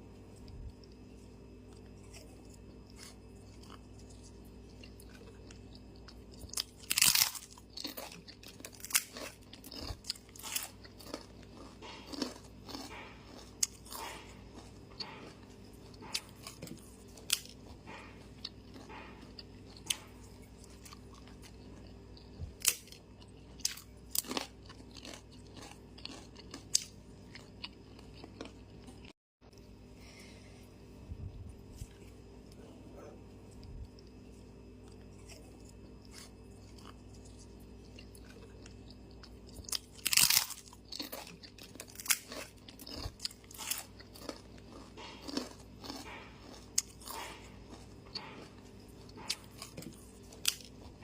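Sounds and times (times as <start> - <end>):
faint steady hum: 0.0 - 51.0
person chewing crunchy food: 0.0 - 51.0.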